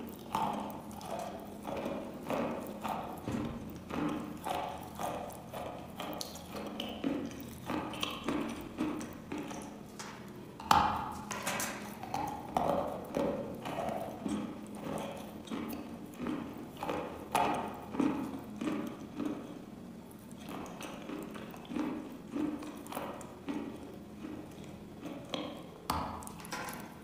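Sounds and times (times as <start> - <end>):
chewing with soft crunching: 0.0 - 27.0.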